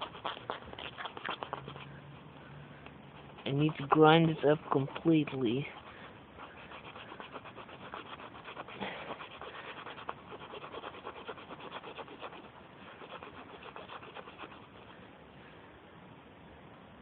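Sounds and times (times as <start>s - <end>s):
sandpaper rubbing on rubber: 0.0s - 2.0s, 3.1s - 14.9s.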